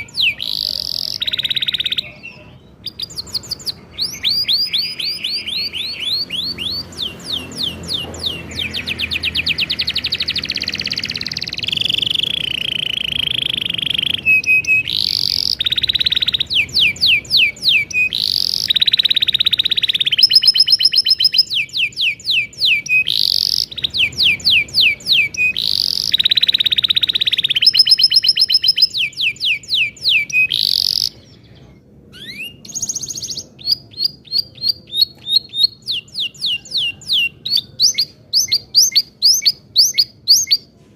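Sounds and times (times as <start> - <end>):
canary singing: 0.0 - 40.8.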